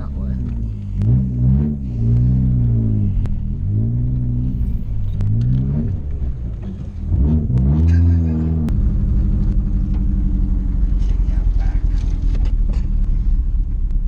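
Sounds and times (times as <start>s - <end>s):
car engine revving: 0.0s - 14.0s
fast-pulsing low rumble: 0.0s - 14.0s.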